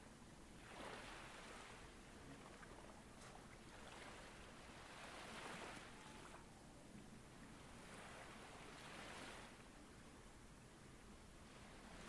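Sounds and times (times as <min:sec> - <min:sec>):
faint ocean waves: 0:00.0 - 0:12.0.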